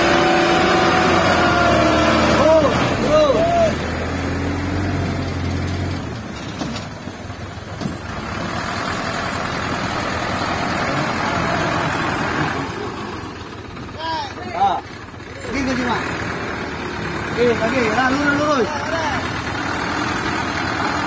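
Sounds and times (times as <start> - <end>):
diesel truck engine: 0.0 - 21.0.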